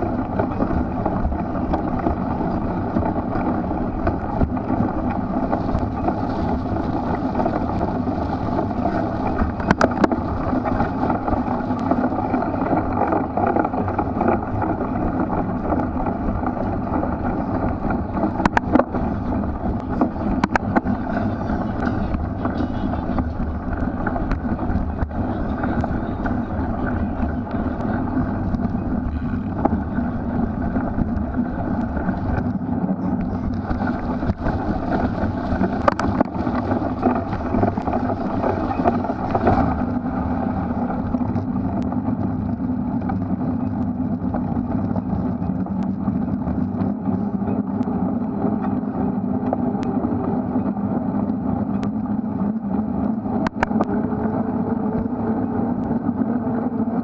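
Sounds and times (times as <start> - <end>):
bike tyre and drivetrain noise: 0.0 - 57.0
wind on microphone: 0.0 - 57.0.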